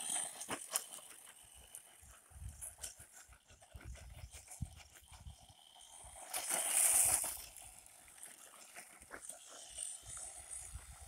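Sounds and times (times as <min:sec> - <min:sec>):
rushing tyres and thrown dirt: 0:00.0 - 0:01.9, 0:03.9 - 0:11.0.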